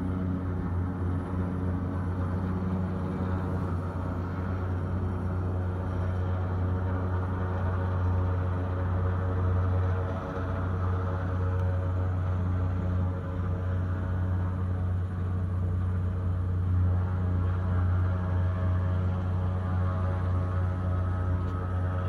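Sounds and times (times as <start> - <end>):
helicopter droning: 0.0 - 22.0.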